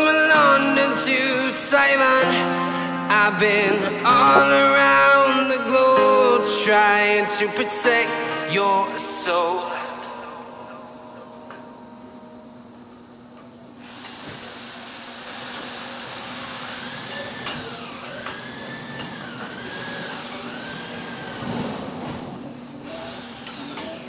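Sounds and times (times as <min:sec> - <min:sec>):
power tool whining: 0:00.0 - 0:24.0.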